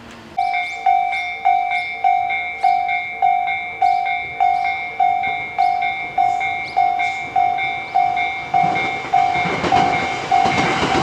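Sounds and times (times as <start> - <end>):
level crossing bell ringing: 0.4 - 11.0.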